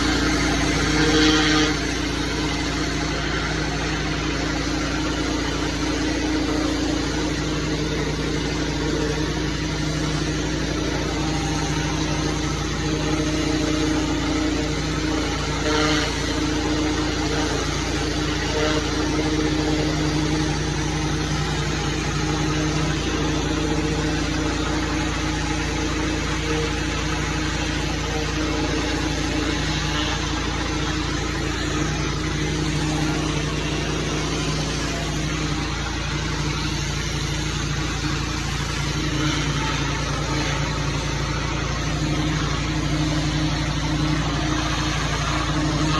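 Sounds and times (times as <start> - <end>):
small gasoline engine running: 0.0 - 45.9.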